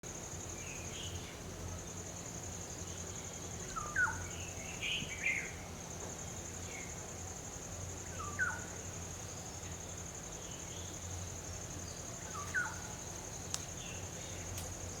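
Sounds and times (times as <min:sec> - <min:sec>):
high-pitched insect trill: 0:00.1 - 0:15.0.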